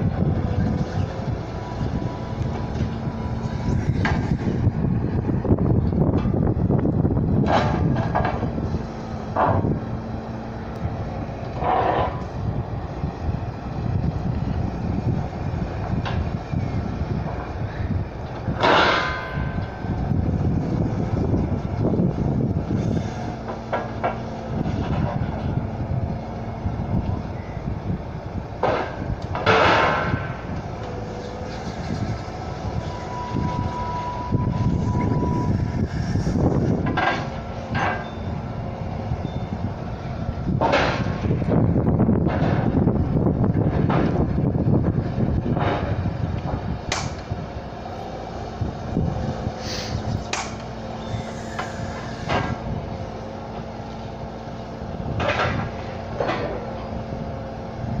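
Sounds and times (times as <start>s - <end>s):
excavator engine rumbling: 0.0s - 58.0s.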